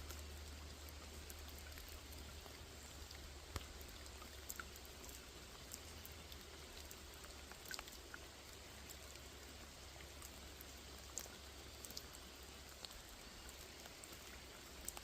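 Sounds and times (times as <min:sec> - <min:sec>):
light rain falling on water: 0:00.0 - 0:15.0
single raindrops ticking: 0:00.0 - 0:15.0.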